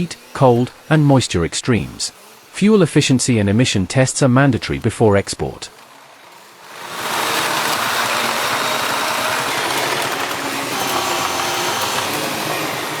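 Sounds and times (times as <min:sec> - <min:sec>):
hissing mechanical noise: 0:00.0 - 0:13.0.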